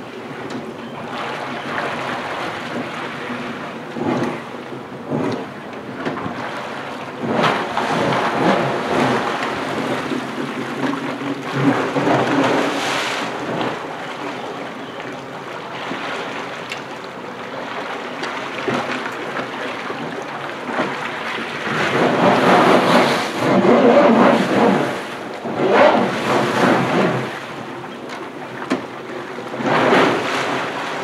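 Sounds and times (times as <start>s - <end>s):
jet ski engine running: 0.0s - 31.0s
water churning and splashing: 0.0s - 31.0s.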